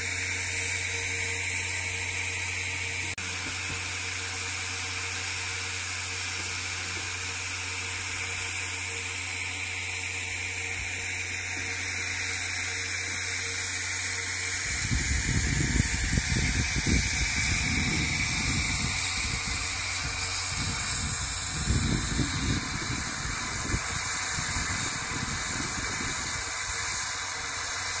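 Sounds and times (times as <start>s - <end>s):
steam hissing: 0.0s - 28.0s.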